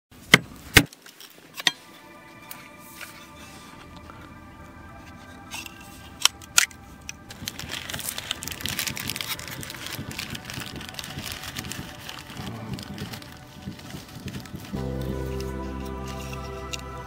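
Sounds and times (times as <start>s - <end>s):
hands rustling small objects: 0.9s - 17.0s.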